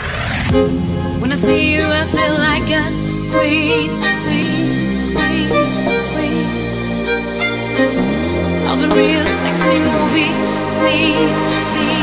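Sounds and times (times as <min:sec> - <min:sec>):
pop song with singer: 0:01.2 - 0:12.0.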